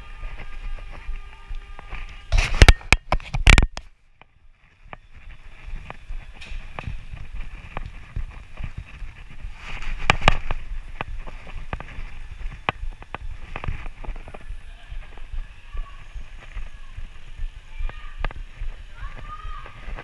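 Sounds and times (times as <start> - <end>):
bicycle rattling: 0.0 - 20.0.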